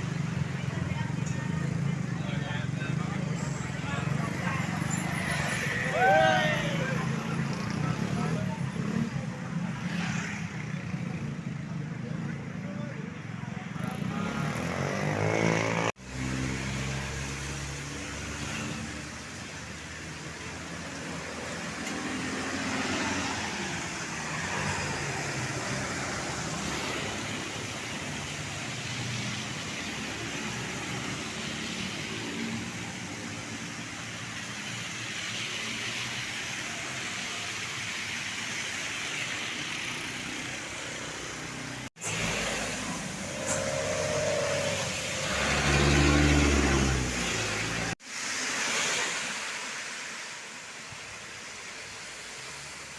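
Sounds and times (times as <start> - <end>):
vehicles passing: 0.0 - 52.9.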